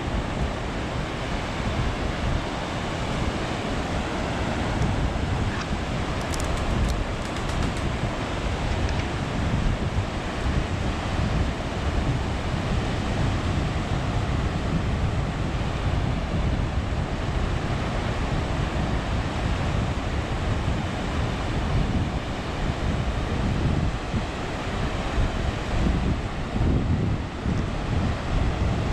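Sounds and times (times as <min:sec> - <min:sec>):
ocean surf washing on beach: 0:00.0 - 0:28.9
wind buffeting microphone: 0:00.0 - 0:28.9.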